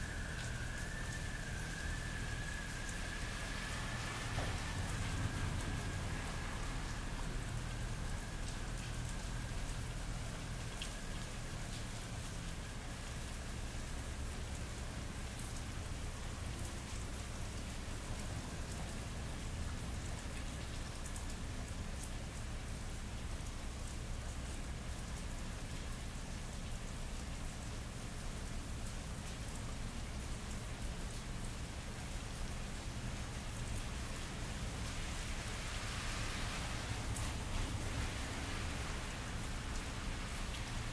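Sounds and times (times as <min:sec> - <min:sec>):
low city hum: 0:00.0 - 0:40.9
rain on wet pavement: 0:00.0 - 0:40.9.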